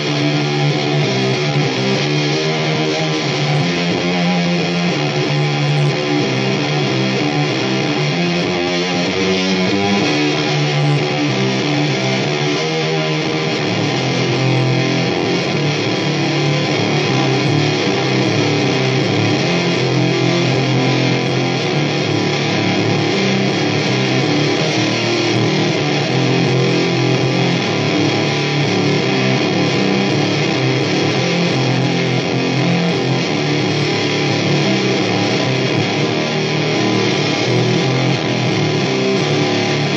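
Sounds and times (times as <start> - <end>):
distorted electric guitar riff: 0.0 - 39.9.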